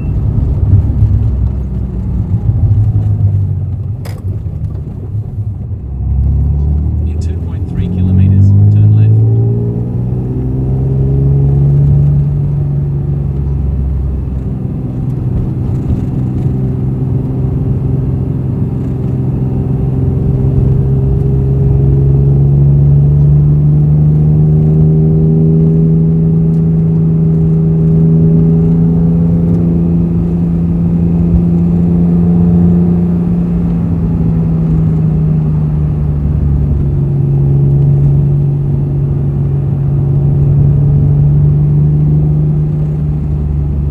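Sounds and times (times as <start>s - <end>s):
car engine cruising: 0.0s - 43.9s.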